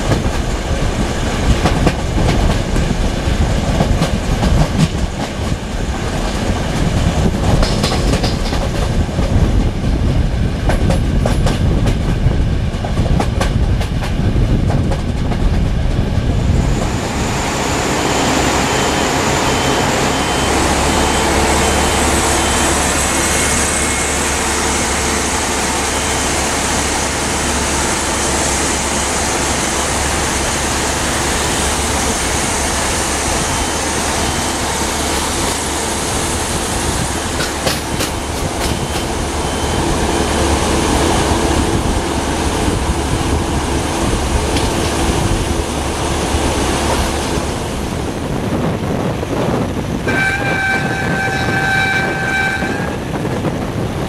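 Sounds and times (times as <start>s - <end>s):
diesel train rumbling past: 0.0s - 54.0s.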